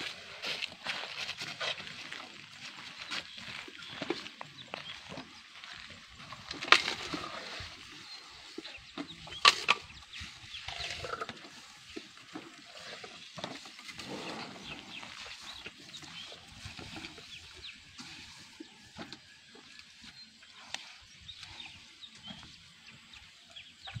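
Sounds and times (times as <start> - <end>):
elephants crunching food: 0.0 - 23.8.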